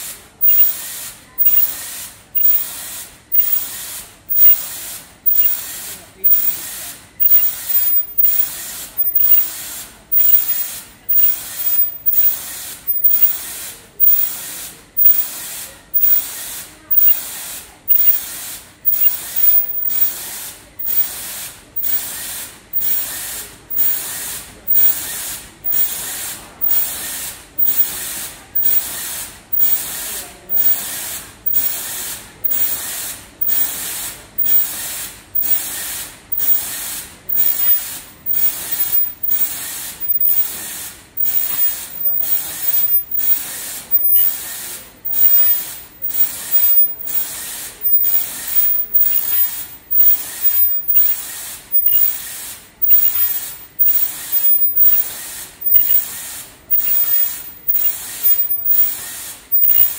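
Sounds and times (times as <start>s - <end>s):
machine hissing: 0.0s - 59.9s
machine clacking: 2.4s - 35.7s, 36.3s - 59.9s.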